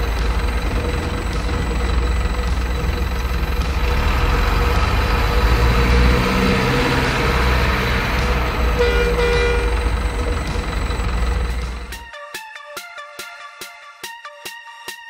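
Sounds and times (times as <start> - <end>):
heavy truck engine running: 0.0 - 12.1.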